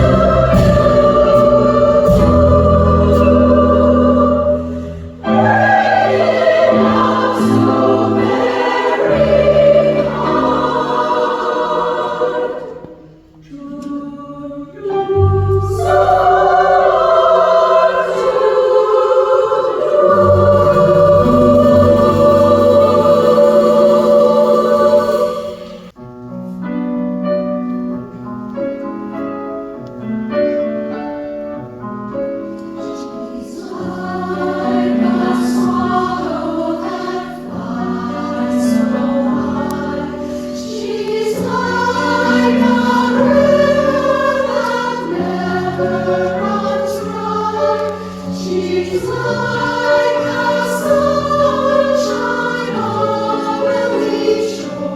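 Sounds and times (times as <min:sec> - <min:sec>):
women's chorus singing: 0:00.0 - 0:26.0, 0:32.8 - 0:54.9.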